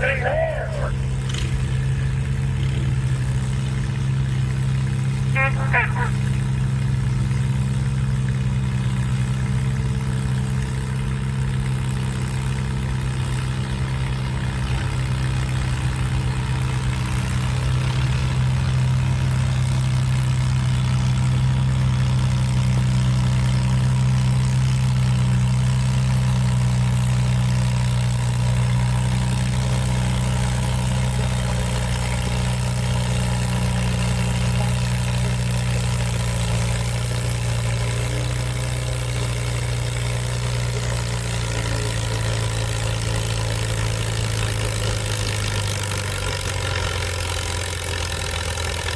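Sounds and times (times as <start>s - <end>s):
tractor engine running steadily: 0.0s - 48.9s.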